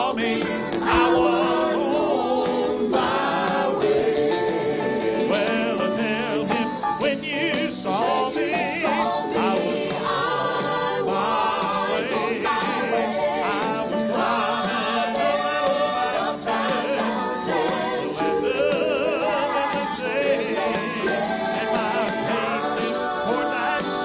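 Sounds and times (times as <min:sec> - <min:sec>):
country gospel accompaniment: 0:00.0 - 0:24.0.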